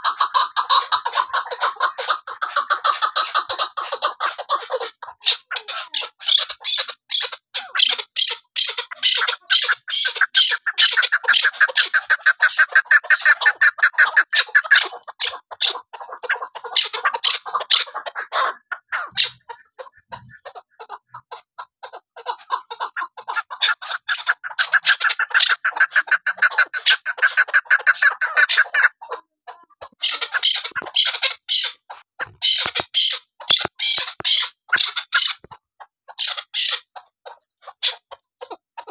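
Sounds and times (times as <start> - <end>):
partridge calling chuck notes: 0.0 - 38.9.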